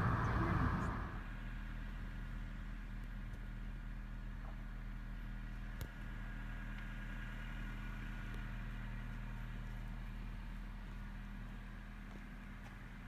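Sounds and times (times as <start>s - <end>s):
car engine hum from inside cabin: 0.0s - 13.0s.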